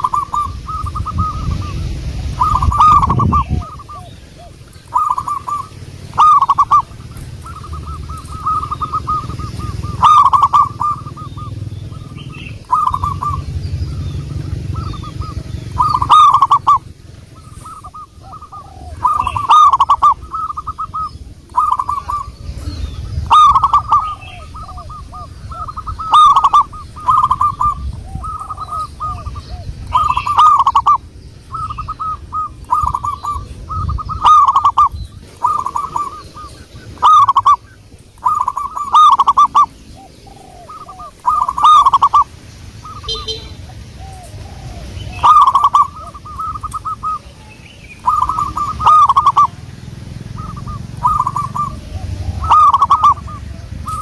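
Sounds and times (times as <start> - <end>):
dove cooing with trilling notes: 0.0 - 54.0.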